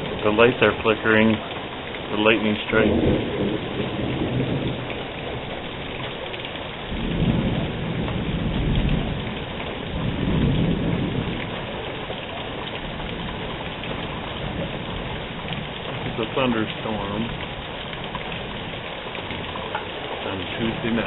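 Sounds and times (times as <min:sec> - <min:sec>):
heavy rain falling: 0:00.0 - 0:21.0
thunder rumbling: 0:02.1 - 0:21.0.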